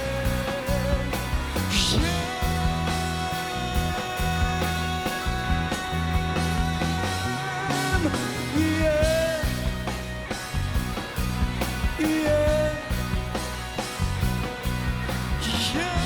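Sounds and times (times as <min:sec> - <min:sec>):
live pop-rock band playing: 0:00.0 - 0:16.0.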